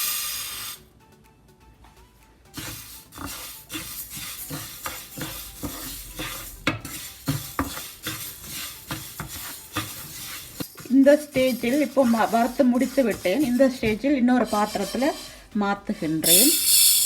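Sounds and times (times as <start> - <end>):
spoon scraping lentils in a pan: 2.5 - 17.0.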